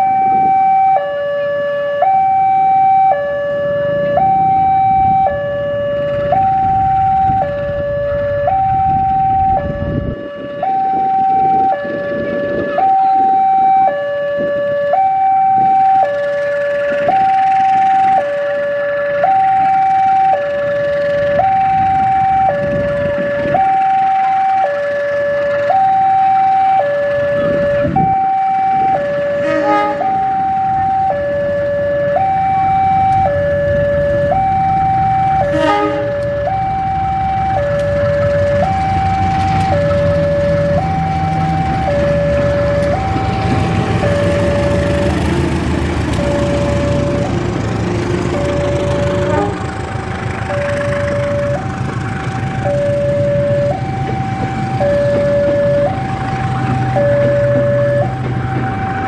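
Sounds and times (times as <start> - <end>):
level crossing two-tone alarm: 0.0 - 45.3, 46.1 - 47.4, 52.5 - 59.0
locomotive engine running: 0.0 - 59.0.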